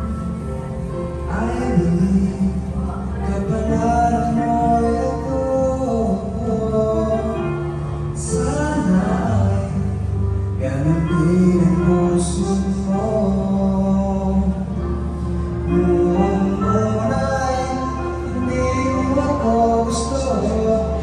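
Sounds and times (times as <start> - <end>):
person singing karaoke: 1.2 - 21.0.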